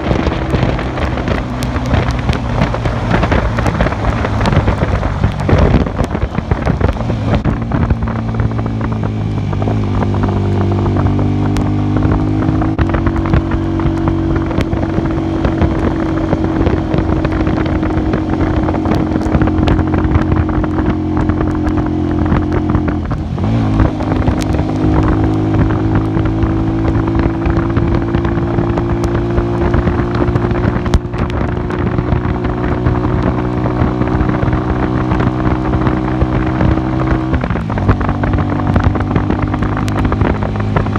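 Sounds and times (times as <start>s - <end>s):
motorcycle engine running: 0.0s - 40.9s
wind hissing across microphone: 0.0s - 40.9s.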